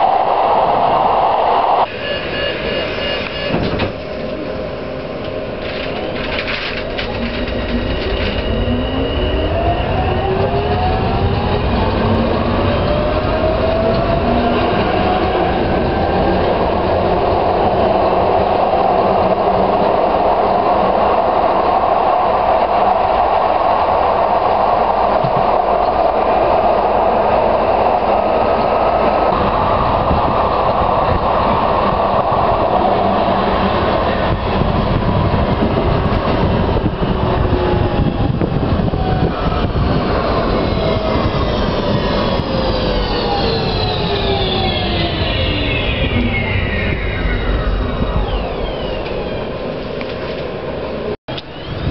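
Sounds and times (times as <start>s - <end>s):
tram rolling at speed: 0.0s - 51.9s.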